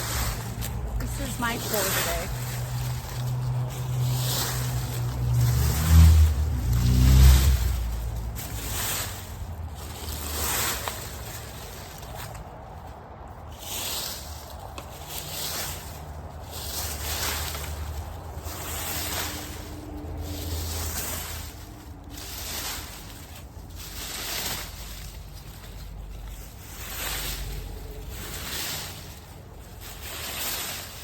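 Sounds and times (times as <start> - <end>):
rake scraping dry leaves: 0.0 - 31.0.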